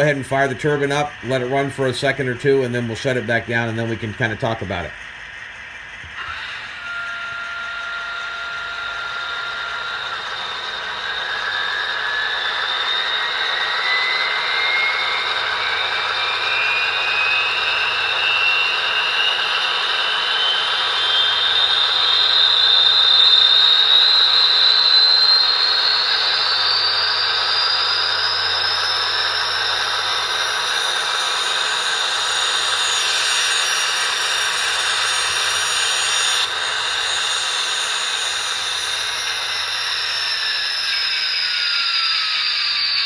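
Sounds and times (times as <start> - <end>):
turbine whine: 0.0 - 43.0.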